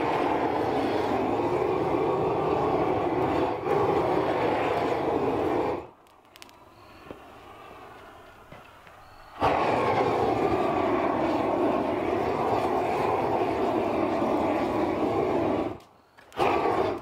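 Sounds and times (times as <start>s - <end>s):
propane torch flame rushing: 0.0s - 17.0s.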